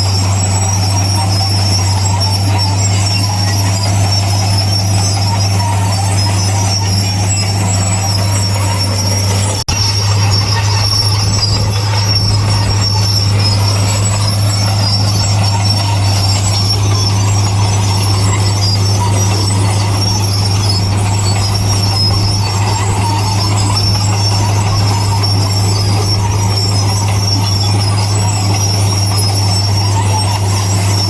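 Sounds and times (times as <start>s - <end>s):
crawler tracks squealing: 0.0s - 31.0s
heavy machinery engine drone: 0.0s - 31.0s.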